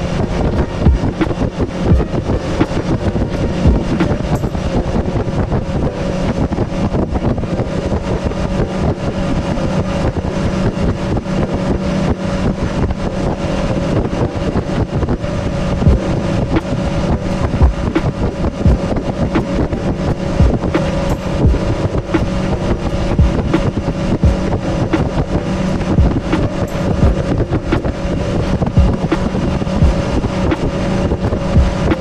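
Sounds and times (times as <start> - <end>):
boat engine running: 0.0 - 32.0
wind buffeting microphone: 0.0 - 32.0.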